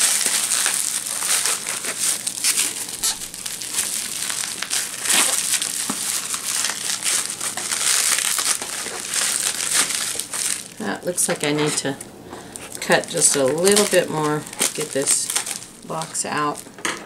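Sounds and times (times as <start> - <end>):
bubble wrap mailer crinkling: 0.0 - 17.0.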